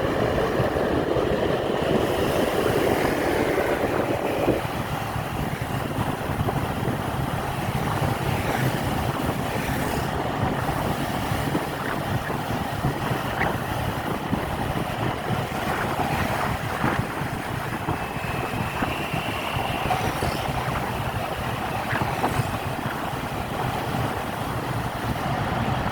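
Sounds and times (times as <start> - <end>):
moving bus rumble: 0.0 - 25.9.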